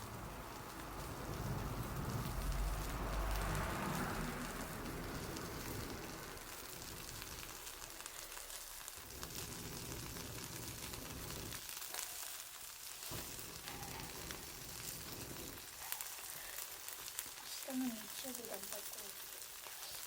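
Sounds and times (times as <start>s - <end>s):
bonfire crackling and popping: 0.0s - 20.0s.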